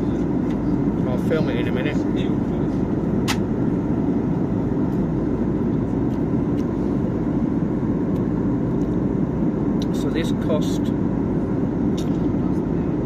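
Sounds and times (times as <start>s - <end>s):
jet engine and airflow rush: 0.0s - 13.0s.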